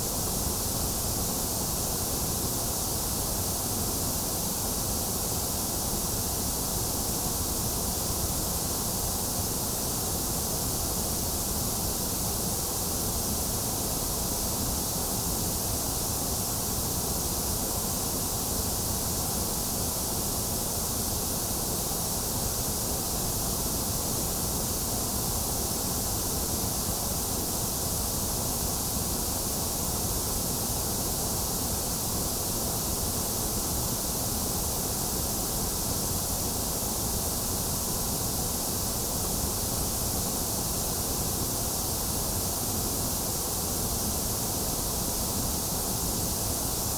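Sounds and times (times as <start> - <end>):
white noise hiss: 0.0 - 46.9.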